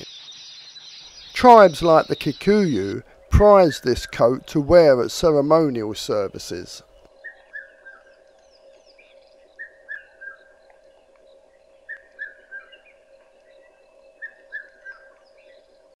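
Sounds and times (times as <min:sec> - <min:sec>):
faint bird chirps: 0:00.0 - 0:16.0
steady hum: 0:01.1 - 0:16.0.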